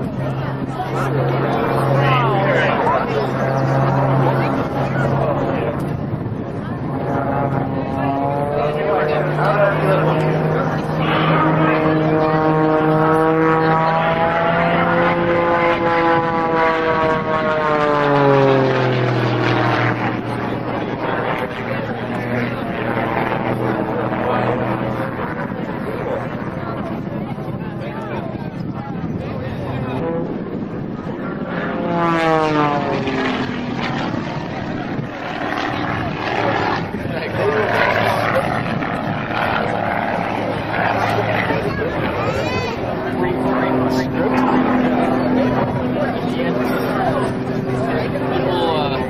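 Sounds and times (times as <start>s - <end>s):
propeller airplane engine droning: 0.0s - 49.0s.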